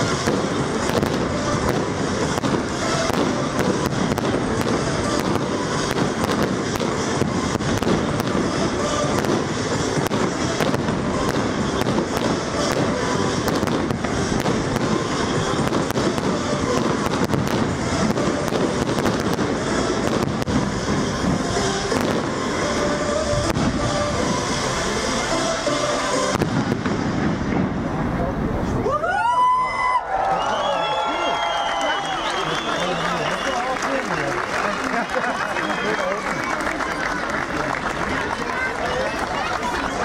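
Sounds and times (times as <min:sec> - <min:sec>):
fireworks bursting: 0:00.0 - 0:28.9, 0:30.4 - 0:40.0.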